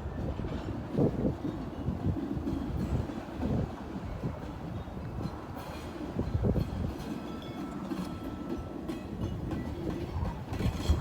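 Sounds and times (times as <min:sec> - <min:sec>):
wind buffeting microphone: 0:00.0 - 0:07.3, 0:07.9 - 0:11.0
freight train rumbling: 0:00.0 - 0:11.0.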